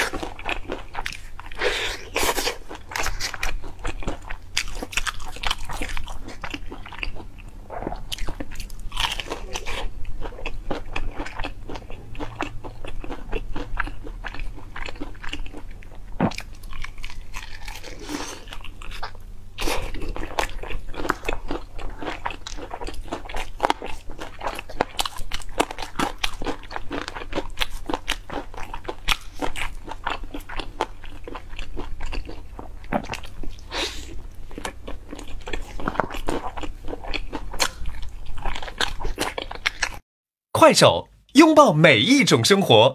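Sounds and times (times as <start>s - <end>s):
crunching and chewing fried chicken: 0.0s - 40.0s.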